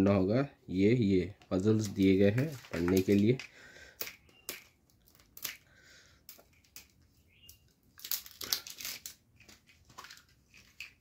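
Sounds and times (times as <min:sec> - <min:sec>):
plastic crackling and crinkling: 0:01.4 - 0:05.7, 0:06.3 - 0:11.0
plastic capsule clicking and creaking: 0:01.4 - 0:11.0.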